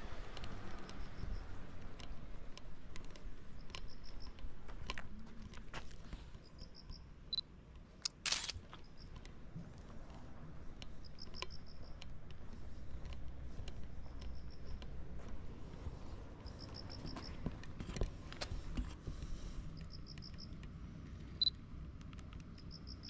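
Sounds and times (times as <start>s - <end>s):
low steady outdoor rumble: 0.0s - 23.0s.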